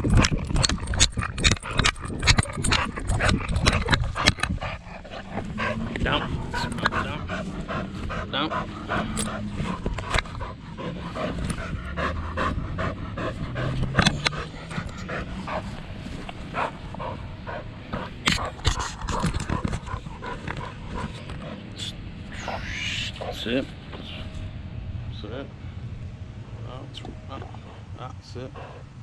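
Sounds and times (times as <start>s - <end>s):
dog panting: 0.0s - 24.4s, 27.2s - 29.0s.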